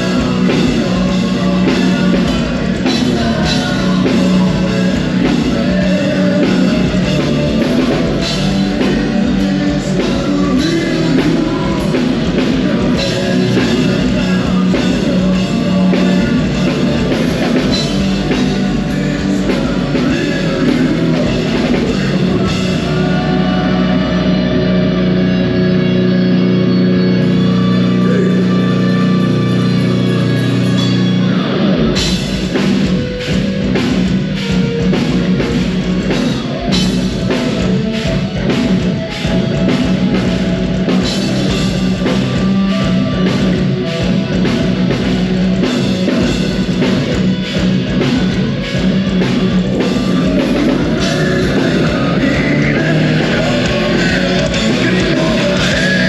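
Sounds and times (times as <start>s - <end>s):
distorted electric guitars: 0.0s - 56.0s
drum kit pounding beat: 0.0s - 56.0s.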